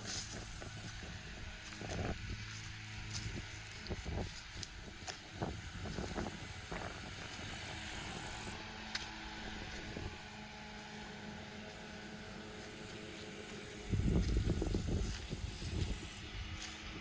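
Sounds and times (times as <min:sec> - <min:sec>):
footsteps walking: 0:00.0 - 0:01.0, 0:01.6 - 0:10.1, 0:10.7 - 0:17.0
distant engine drone: 0:00.0 - 0:17.0
faint high whine: 0:00.0 - 0:17.0.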